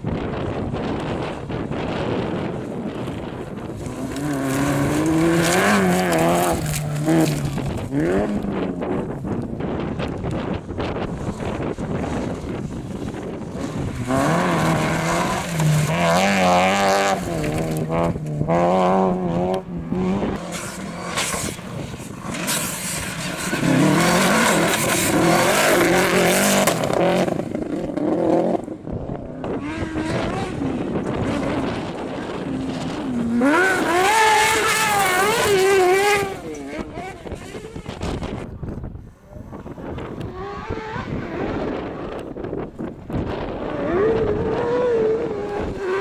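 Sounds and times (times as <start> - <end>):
rally car engines revving: 0.0 - 46.0.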